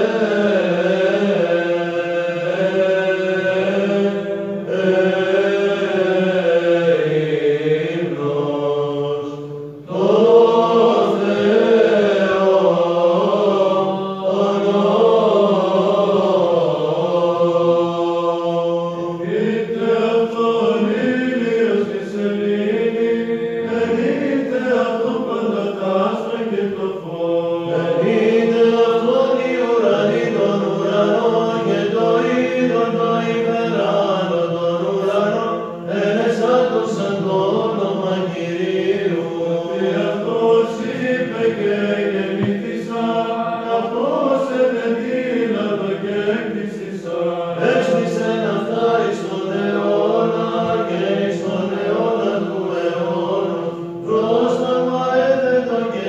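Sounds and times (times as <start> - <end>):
male choir chanting: 0.0 - 56.0.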